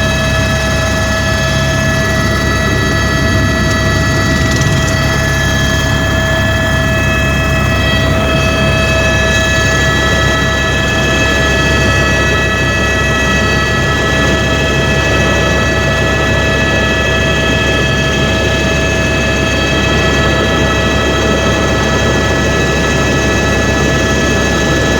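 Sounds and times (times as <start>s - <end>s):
helicopter engine and rotor rumble: 0.0s - 24.9s
high turbine whine: 0.0s - 24.9s.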